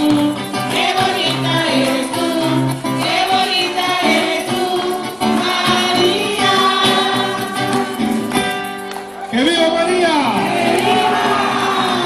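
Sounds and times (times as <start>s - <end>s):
voices singing together: 0.0s - 8.6s, 10.3s - 12.0s.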